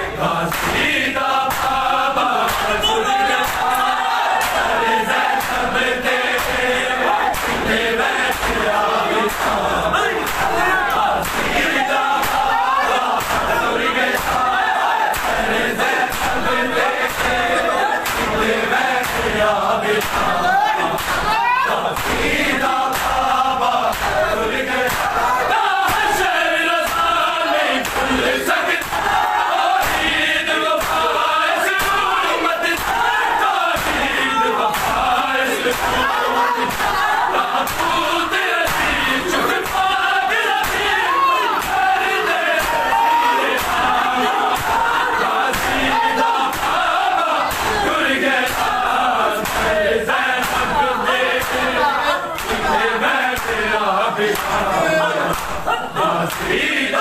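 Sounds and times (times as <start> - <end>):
chest beating slaps: 0.0 - 52.7, 53.4 - 53.7, 54.3 - 56.6
men chanting together: 0.0 - 57.0.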